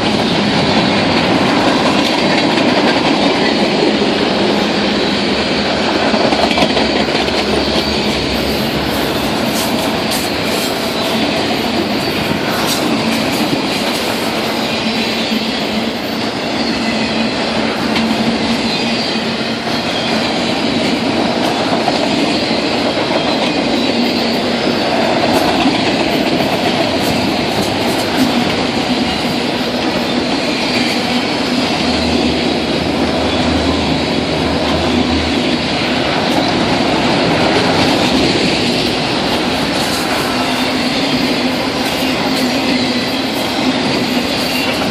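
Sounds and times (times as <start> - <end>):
train wheels clattering over rails: 0.0 - 44.9.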